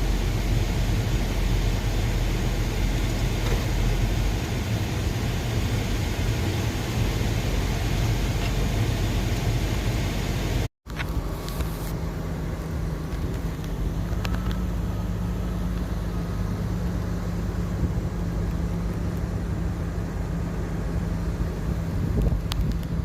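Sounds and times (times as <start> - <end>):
motor vehicle humming: 0.0 - 23.0.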